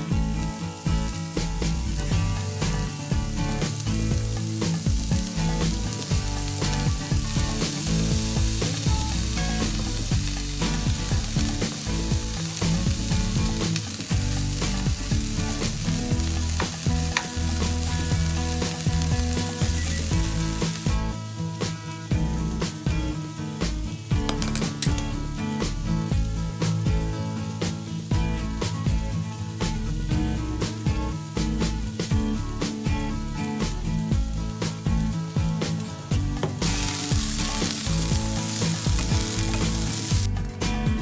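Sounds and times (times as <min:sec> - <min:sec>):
onions sizzling in a pan: 0:00.0 - 0:40.3.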